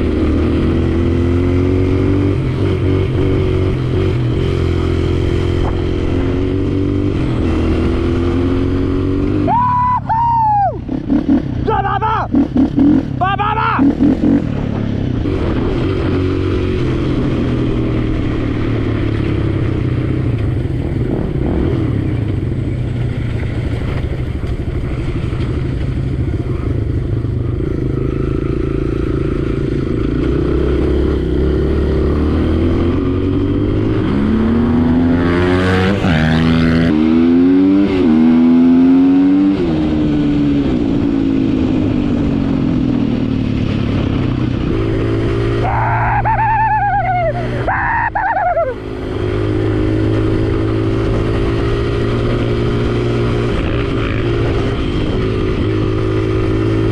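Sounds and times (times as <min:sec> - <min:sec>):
dirt bike engine revving: 0:00.0 - 0:24.2, 0:27.5 - 0:56.9.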